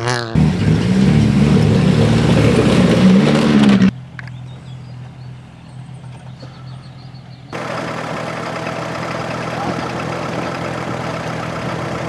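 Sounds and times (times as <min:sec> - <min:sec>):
car engine running hard: 0:00.1 - 0:04.8, 0:05.9 - 0:12.0
low engine hum: 0:00.4 - 0:12.0.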